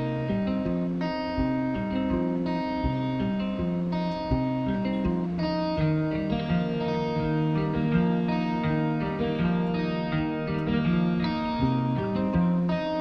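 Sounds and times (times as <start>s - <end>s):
low regular beat: 0.0s - 13.0s
plucked guitar music: 0.0s - 13.0s.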